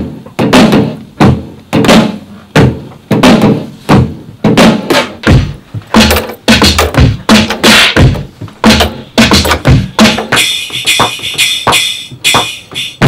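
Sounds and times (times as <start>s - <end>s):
sampled drum beat: 0.0s - 13.0s.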